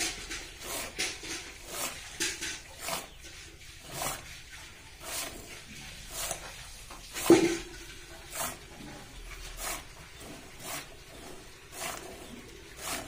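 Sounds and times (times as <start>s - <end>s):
milk squirting into a bucket: 0.0s - 13.0s.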